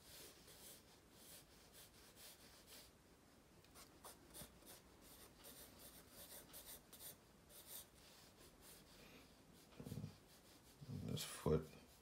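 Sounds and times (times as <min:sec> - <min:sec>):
pencil scratching on paper: 0:00.0 - 0:02.9, 0:03.8 - 0:12.0.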